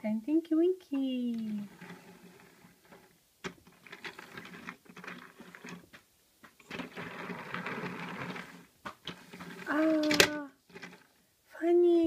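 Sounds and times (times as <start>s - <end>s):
plastic blocks clattering: 1.3s - 11.2s.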